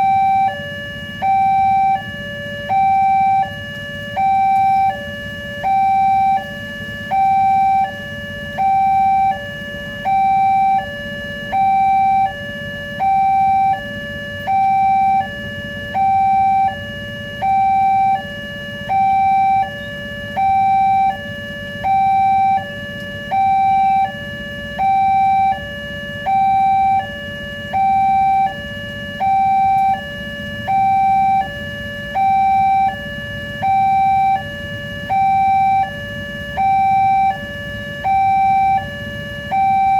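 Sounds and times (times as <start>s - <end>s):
low steady rumble: 0.0s - 39.9s
two-tone crossing alarm: 0.0s - 39.9s.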